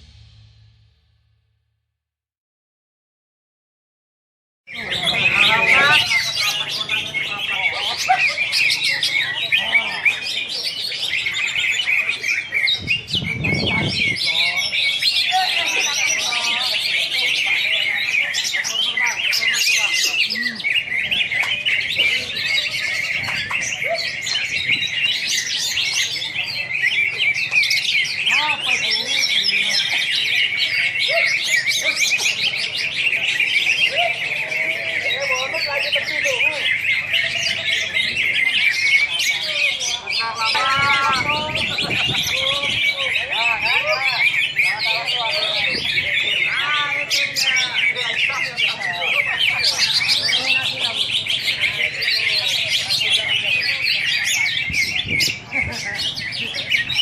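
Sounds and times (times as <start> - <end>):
bird singing rapid chirps and trills: 4.7 - 57.0.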